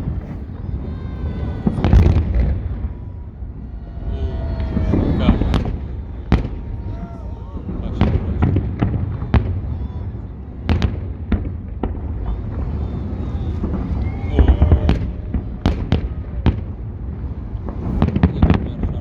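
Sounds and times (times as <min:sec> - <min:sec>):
faint crowd voices: 0:00.0 - 0:19.0
fireworks bursting with sharp bangs: 0:00.0 - 0:19.0.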